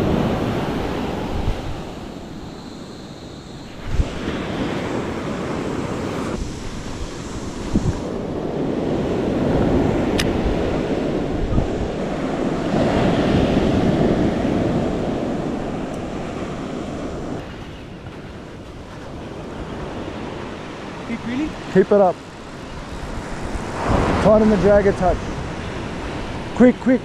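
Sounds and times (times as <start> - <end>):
wind on microphone: 0.0 - 21.0, 22.3 - 26.6
surf washing up beach: 0.0 - 27.0.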